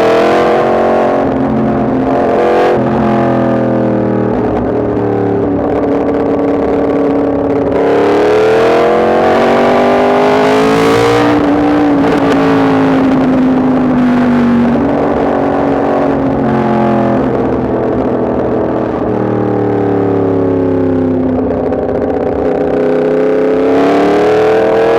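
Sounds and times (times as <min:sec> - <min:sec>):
motorcycle engine accelerating: 0:00.0 - 0:24.9
wind noise: 0:00.0 - 0:24.9.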